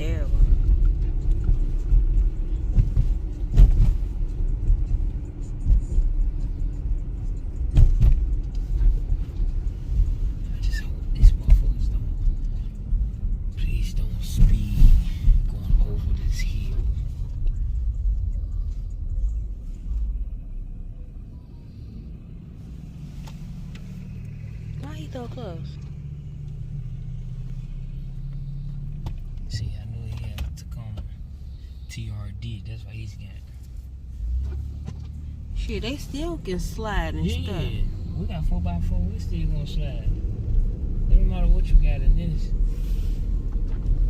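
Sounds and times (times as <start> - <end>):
road rumble inside car: 0.0 - 44.0.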